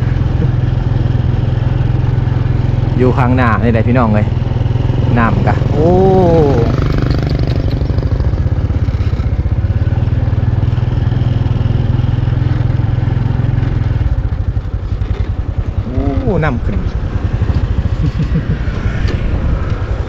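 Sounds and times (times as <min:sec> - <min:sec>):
small motorcycle engine running: 0:00.0 - 0:20.0.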